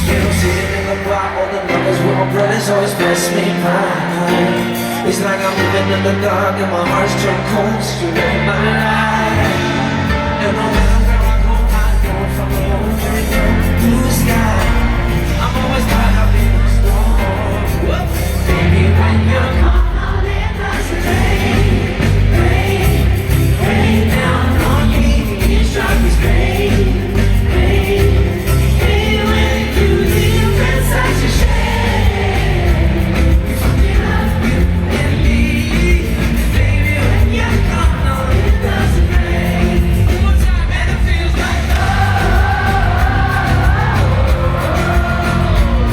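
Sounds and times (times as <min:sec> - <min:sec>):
pop-rock song with singing: 0:00.0 - 0:45.9.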